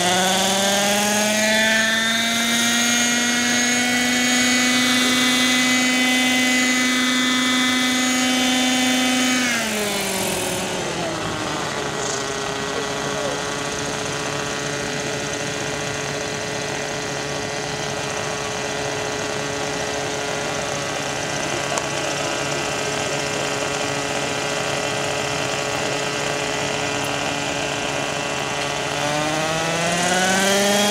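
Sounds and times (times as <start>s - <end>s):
model helicopter engine idling: 0.0s - 30.9s.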